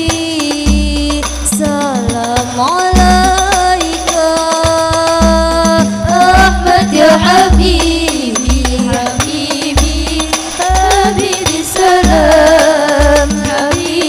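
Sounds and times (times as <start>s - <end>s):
frame drums beating: 0.0s - 14.0s
women singing in unison: 0.0s - 14.0s.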